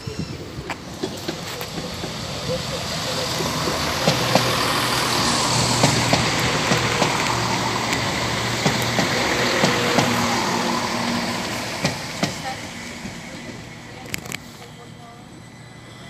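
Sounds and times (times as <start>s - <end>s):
diesel engine humming: 0.0s - 16.0s
train wheels clicking over rail joints: 0.2s - 14.9s.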